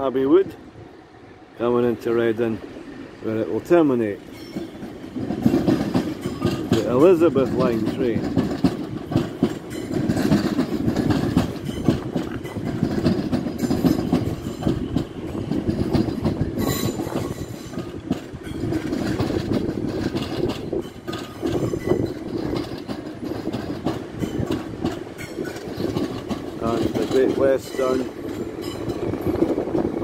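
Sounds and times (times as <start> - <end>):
train wheels clicking over rail joints: 1.6 - 30.0.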